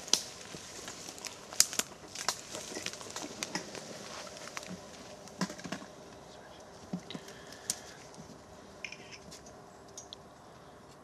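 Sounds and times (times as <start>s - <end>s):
leaves and twigs rustling: 0.0s - 11.0s.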